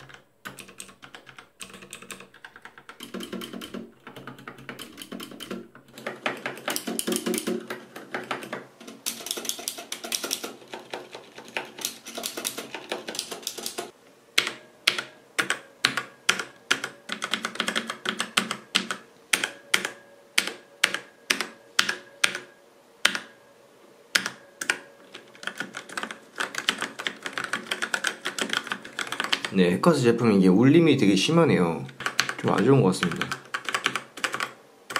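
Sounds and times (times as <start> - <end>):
mechanical keyboard typing: 0.0 - 23.4, 24.2 - 29.6, 31.8 - 34.9.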